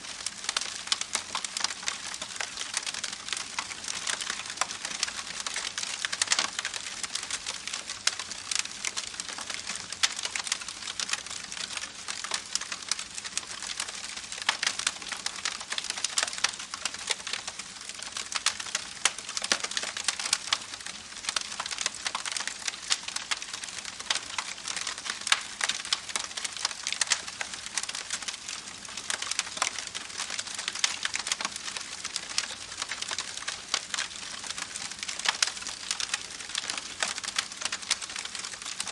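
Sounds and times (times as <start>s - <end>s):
campfire crackling: 0.2s - 13.6s, 14.4s - 38.9s.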